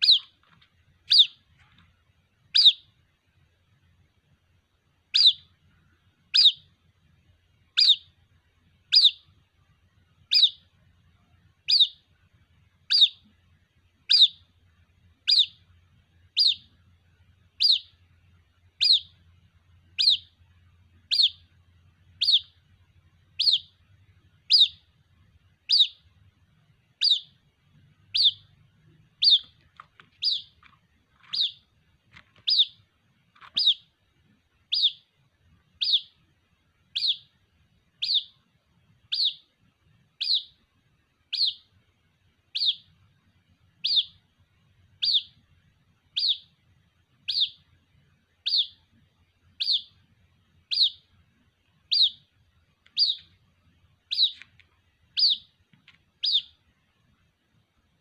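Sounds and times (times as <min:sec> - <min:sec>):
bird chick peeping: 0:00.0 - 0:03.0, 0:05.1 - 0:06.8, 0:07.6 - 0:09.6, 0:10.2 - 0:12.2, 0:12.8 - 0:41.8, 0:42.5 - 0:56.7.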